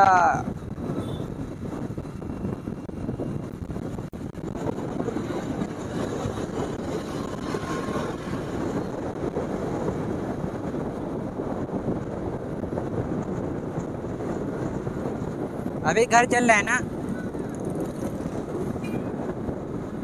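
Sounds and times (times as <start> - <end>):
motorcycle engine and road noise: 0.0 - 20.0.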